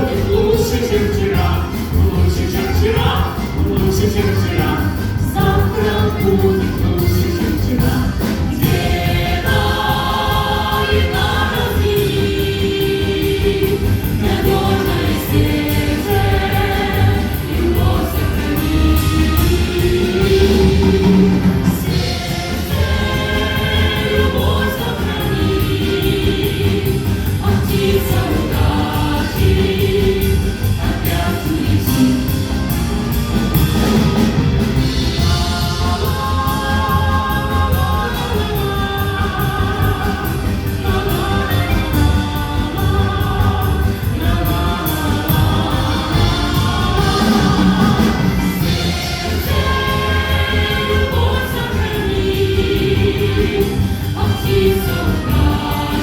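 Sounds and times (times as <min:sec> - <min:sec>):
choir singing: 0:00.0 - 0:56.0
instrumental accompaniment with bass: 0:00.0 - 0:56.0.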